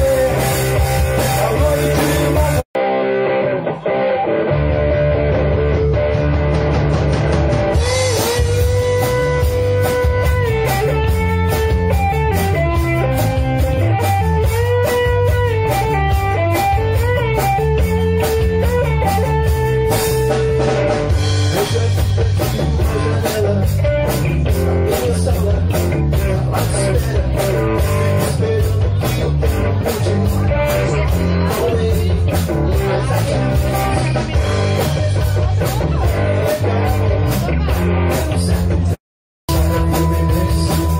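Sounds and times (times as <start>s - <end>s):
drum kit beat: 0.0s - 2.7s, 4.5s - 40.9s
bass guitar: 0.0s - 40.9s
electric guitar: 0.0s - 40.9s.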